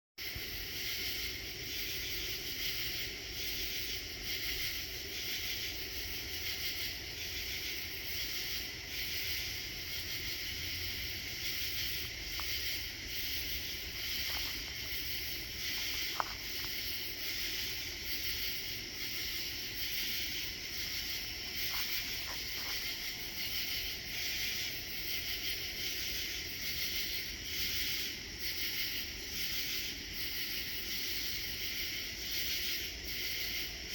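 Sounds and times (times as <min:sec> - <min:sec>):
insects buzzing at night: 0:00.2 - 0:33.9.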